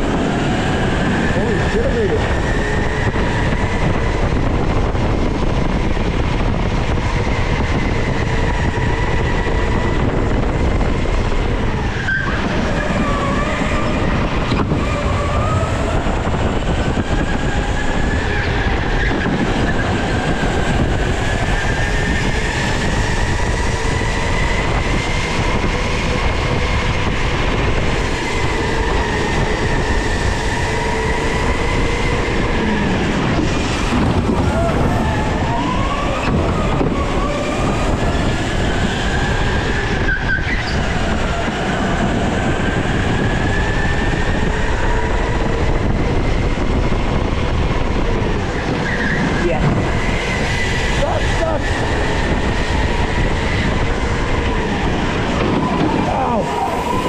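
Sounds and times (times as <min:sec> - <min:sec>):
tyre and track noise: 0:00.0 - 0:57.0.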